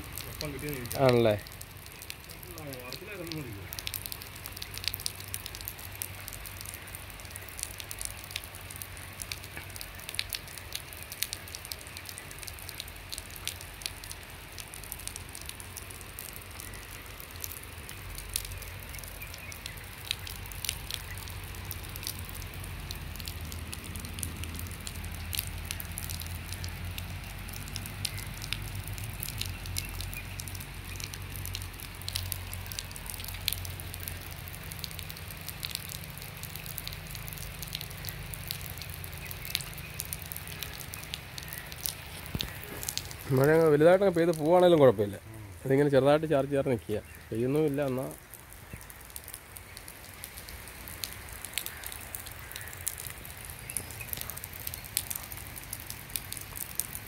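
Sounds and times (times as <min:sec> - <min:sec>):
rain falling on river: 0:00.0 - 0:57.0.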